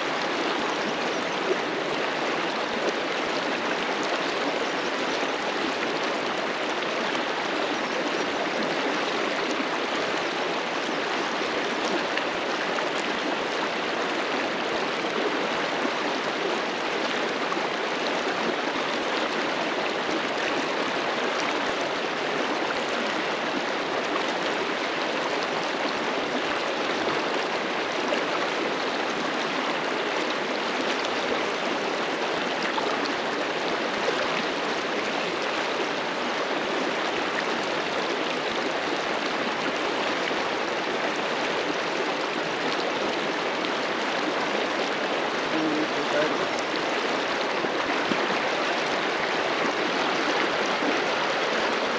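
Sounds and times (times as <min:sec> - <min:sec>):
river water rushing over rocks: 0:00.0 - 0:51.9.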